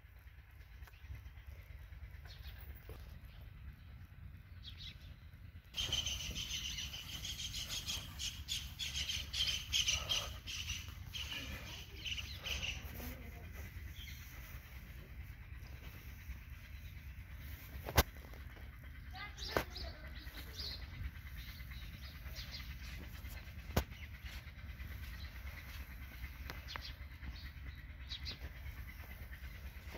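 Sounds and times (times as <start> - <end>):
steady low rumble: 0.0 - 29.9
small birds chirping: 0.1 - 29.9.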